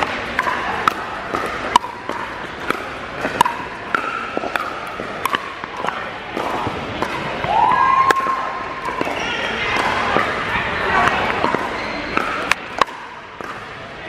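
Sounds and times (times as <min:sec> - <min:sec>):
paddles hitting plastic ball: 0:00.0 - 0:13.8.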